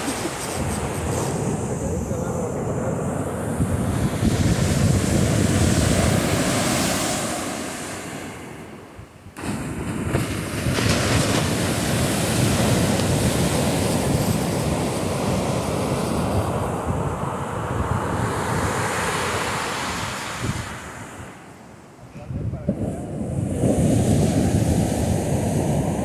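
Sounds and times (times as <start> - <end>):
surf breaking on beach: 0.0 - 8.8, 9.4 - 21.5, 22.7 - 26.0
wind buffeting microphone: 0.0 - 21.5, 22.1 - 26.0.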